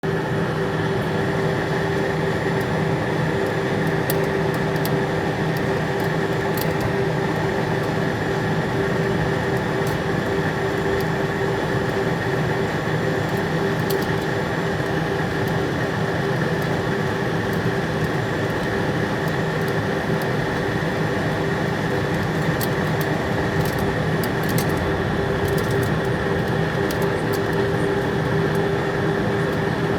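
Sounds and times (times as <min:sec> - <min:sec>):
jet airliner cabin drone: 0:00.0 - 0:29.9.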